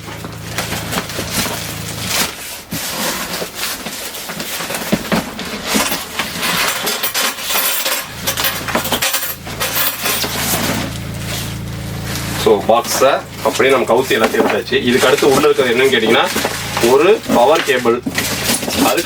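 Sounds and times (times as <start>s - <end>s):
plastic wrapping rustling: 0.0s - 19.0s.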